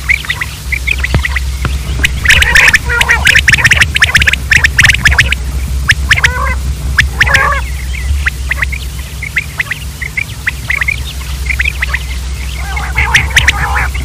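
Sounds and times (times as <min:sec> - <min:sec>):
quail chirping: 0:00.0 - 0:14.0
steady low hum: 0:00.0 - 0:14.0.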